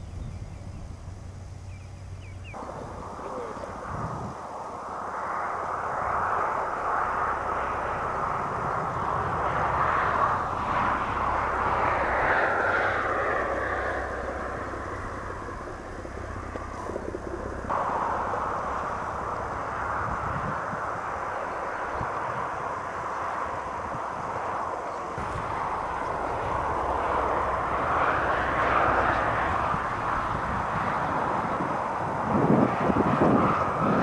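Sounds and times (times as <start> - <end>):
steady engine drone: 0.0 - 34.0.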